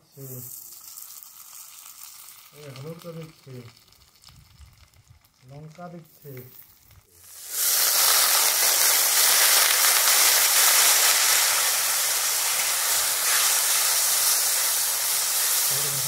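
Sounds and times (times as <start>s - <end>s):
spice paste sizzling in oil: 0.0s - 16.0s.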